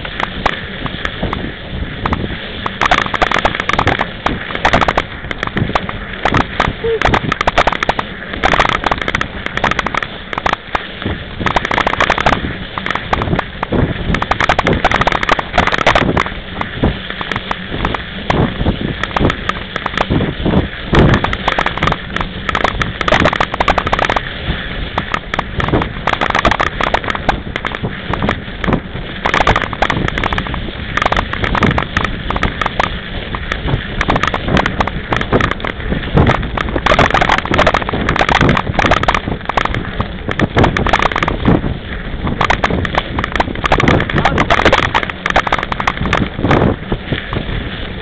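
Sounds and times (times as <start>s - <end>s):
bike jolts and rattles: 0.0s - 48.0s
steady rushing noise: 0.0s - 48.0s.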